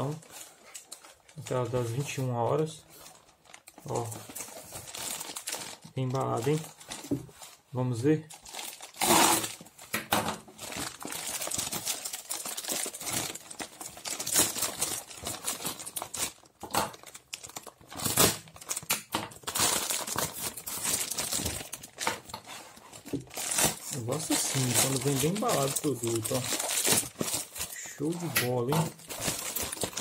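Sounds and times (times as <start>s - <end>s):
plastic bag crinkling and rustling: 0.0s - 30.0s.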